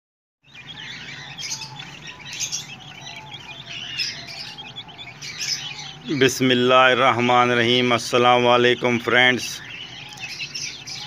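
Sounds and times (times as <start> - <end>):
chicks peeping: 0.4 - 11.0.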